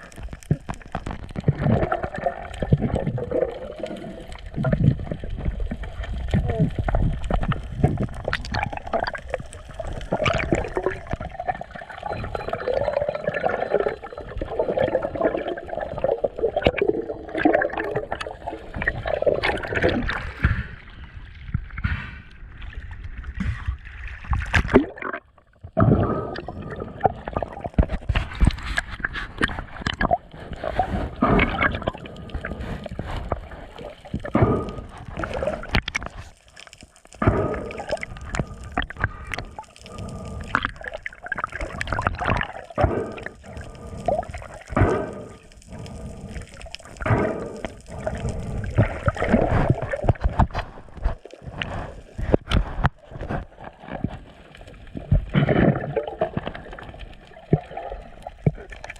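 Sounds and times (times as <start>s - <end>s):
water sloshing and gurgling: 0.0s - 58.9s
water splashes: 0.0s - 58.9s.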